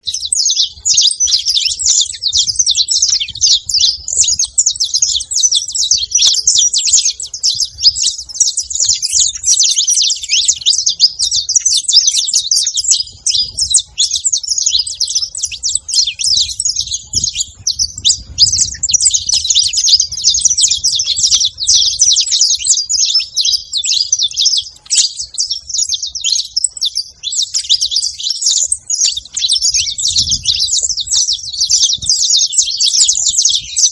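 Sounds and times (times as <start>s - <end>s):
finch chirping and singing: 0.0s - 33.9s.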